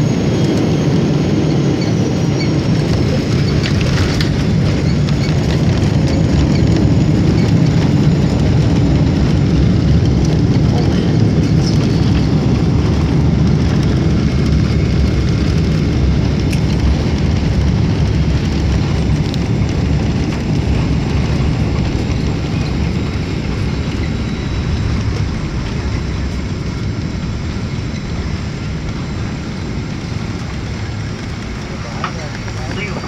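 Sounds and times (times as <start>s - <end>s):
jet engines in reverse thrust: 0.0s - 33.0s
landing rollout rumble: 0.2s - 33.0s.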